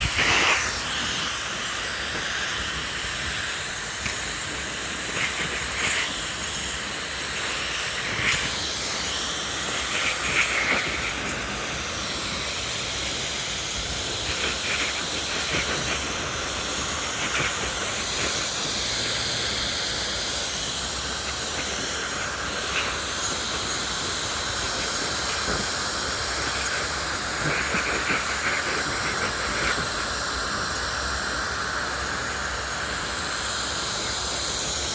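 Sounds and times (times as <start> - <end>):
hairdryer blowing air: 0.0 - 34.9.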